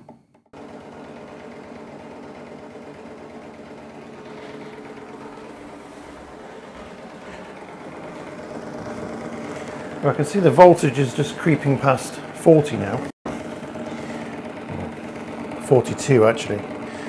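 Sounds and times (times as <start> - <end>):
stirling engine running: 0.5 - 17.0.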